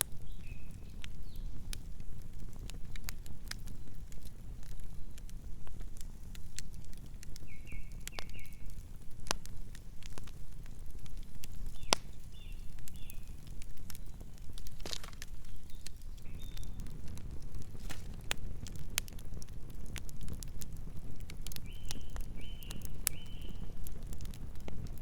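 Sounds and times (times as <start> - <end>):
flames rumbling: 0.0 - 25.0
wood fire pops and snaps: 0.0 - 25.0.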